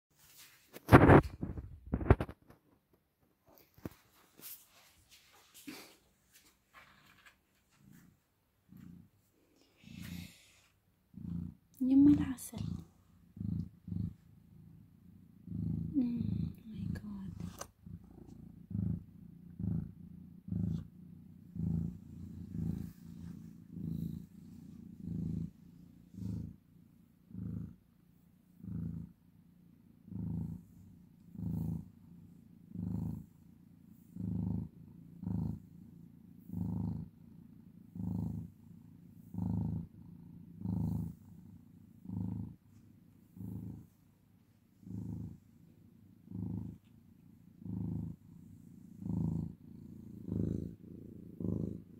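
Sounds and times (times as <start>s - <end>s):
cat purring: 0.2s - 51.9s.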